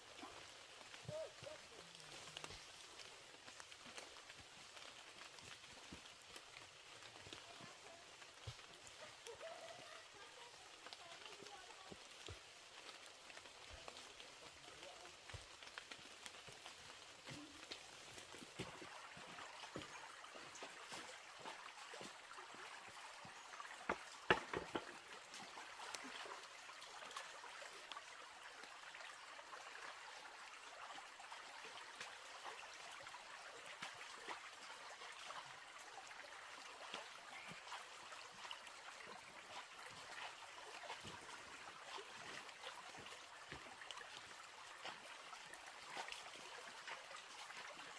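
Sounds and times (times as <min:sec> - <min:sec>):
water trickling: 0:00.0 - 0:47.9.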